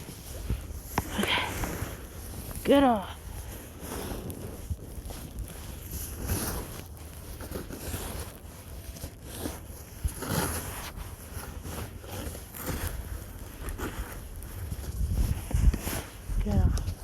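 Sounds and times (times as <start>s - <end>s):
snow being scraped off car: 0.0s - 17.0s.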